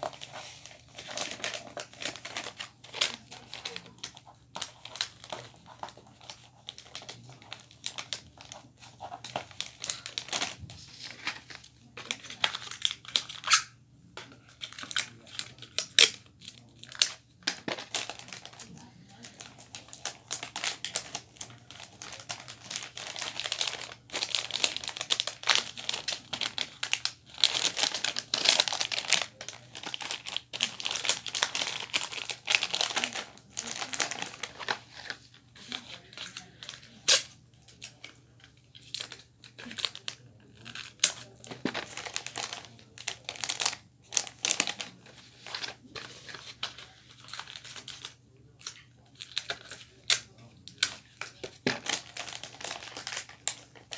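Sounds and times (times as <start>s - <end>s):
wrapping paper crinkling: 0.0s - 13.7s, 14.4s - 53.9s.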